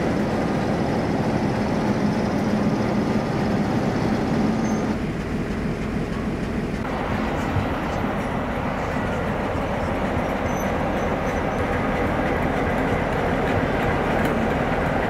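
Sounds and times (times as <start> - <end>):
diesel locomotive engine passing: 0.0 - 15.0.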